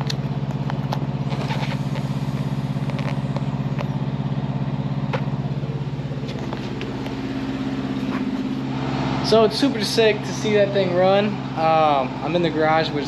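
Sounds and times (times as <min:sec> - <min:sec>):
car engine at uneven idle: 0:00.0 - 0:13.0.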